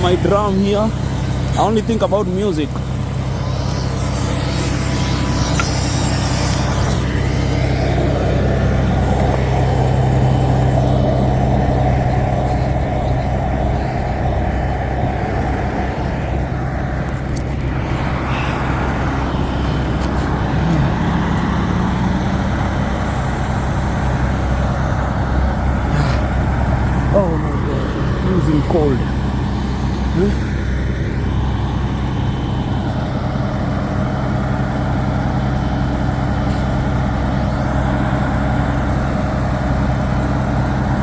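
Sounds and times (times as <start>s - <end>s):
engine pitch rising: 0.0s - 41.0s
freeway traffic hum: 0.0s - 41.0s.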